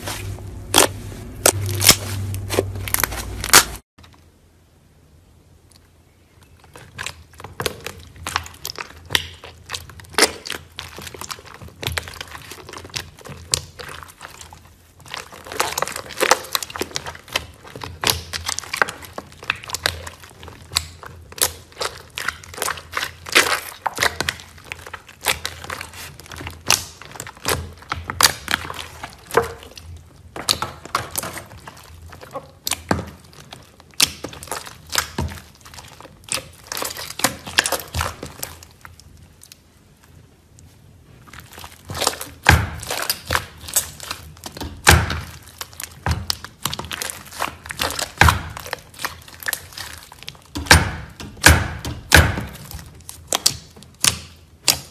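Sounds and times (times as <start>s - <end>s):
slime crackling and popping: 0.0s - 3.8s, 6.4s - 54.9s.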